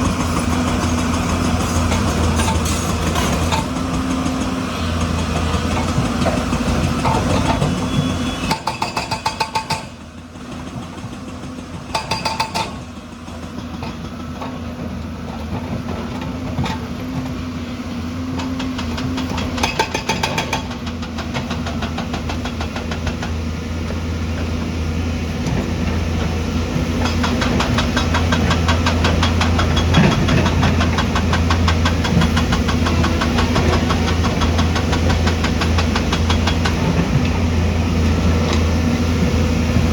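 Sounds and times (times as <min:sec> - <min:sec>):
diesel construction machinery running: 0:00.0 - 0:39.9.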